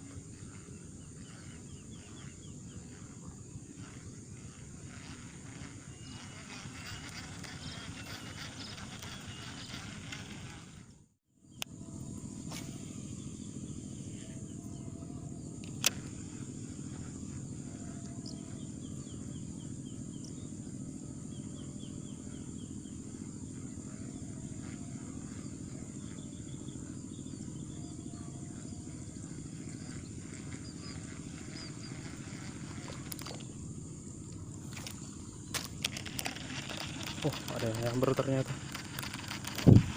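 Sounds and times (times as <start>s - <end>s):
insects chirping: 0.0s - 39.9s
low hum: 0.0s - 39.9s.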